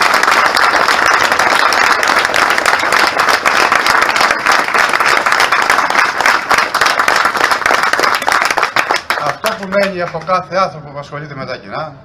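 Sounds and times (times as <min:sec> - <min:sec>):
crowd applauding: 0:00.0 - 0:10.5.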